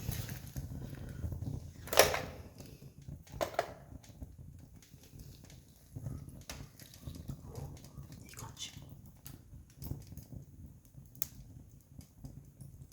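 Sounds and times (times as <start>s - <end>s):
campfire crackling and popping: 0.0s - 12.9s.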